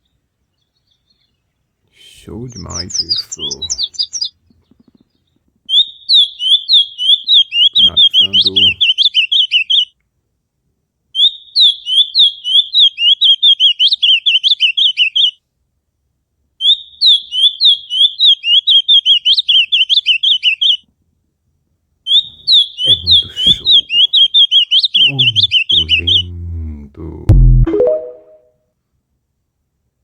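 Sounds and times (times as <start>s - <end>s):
songbird chirping: 0.0s - 10.0s, 11.2s - 15.4s, 16.6s - 20.8s, 22.1s - 28.5s.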